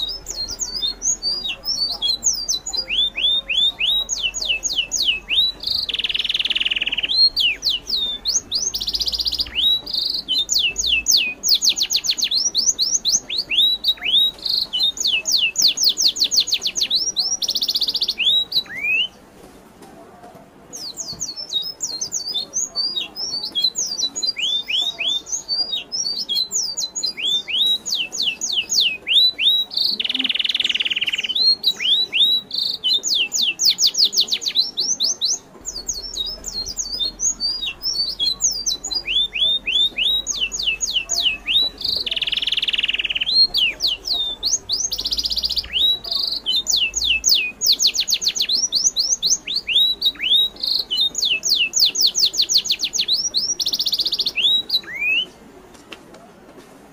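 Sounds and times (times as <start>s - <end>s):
birds chirping: 0.0s - 19.3s, 20.7s - 55.6s.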